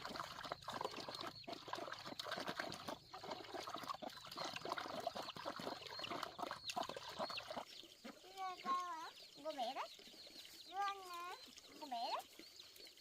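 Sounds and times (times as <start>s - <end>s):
poultry chirping and peeping: 0.0s - 13.0s.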